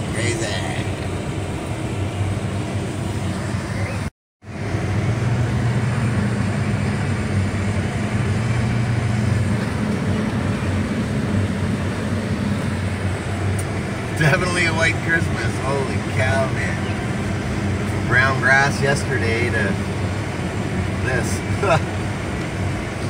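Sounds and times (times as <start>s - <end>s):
car interior road noise: 0.0s - 23.0s.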